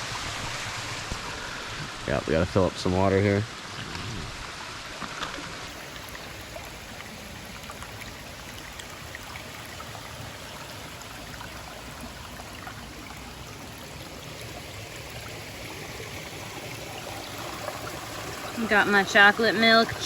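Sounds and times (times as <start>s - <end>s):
small stream of water running: 0.0s - 20.0s.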